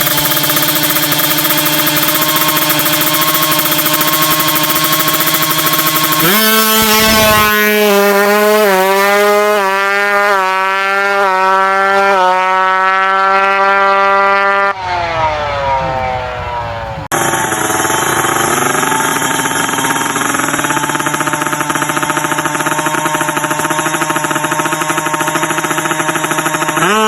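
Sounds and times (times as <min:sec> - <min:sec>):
loud engine: 0:00.0 - 0:27.0
motorcycle engine revving: 0:00.0 - 0:27.0.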